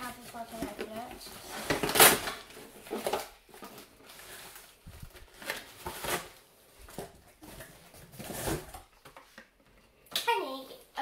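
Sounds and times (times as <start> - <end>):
cardboard scraping rustles: 0.0 - 8.9.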